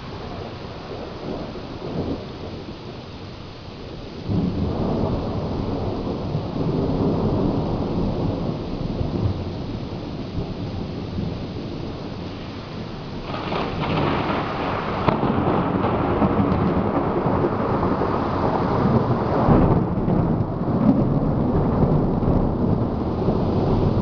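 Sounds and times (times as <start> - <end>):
steady rain: 0.0 - 24.0
thunder rumbling: 0.0 - 24.0
thunder crack: 4.3 - 24.0.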